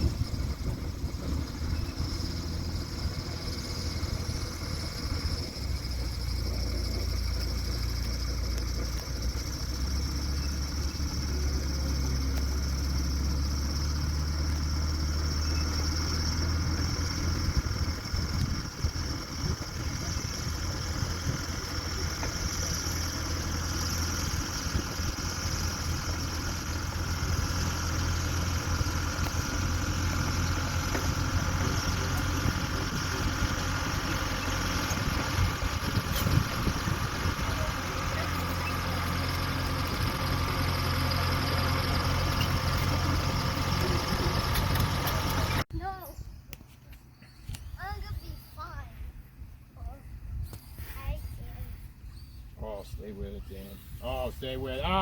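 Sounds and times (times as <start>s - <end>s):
bulldozer diesel engine running: 0.0s - 46.1s, 53.9s - 55.0s.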